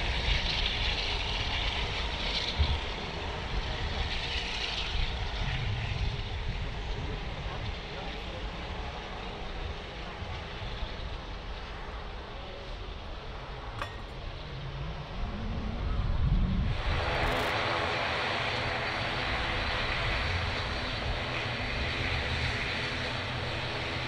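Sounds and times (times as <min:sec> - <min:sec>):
jet engines rumbling: 0:00.0 - 0:24.0
turboprop propeller drone: 0:00.0 - 0:24.0.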